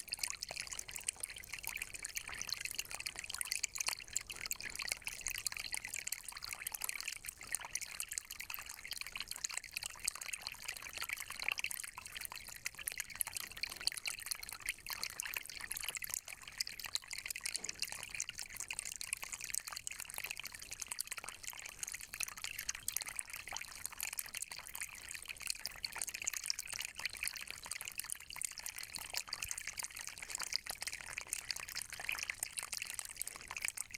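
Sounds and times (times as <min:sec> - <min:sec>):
spring water trickling: 0:00.0 - 0:33.9.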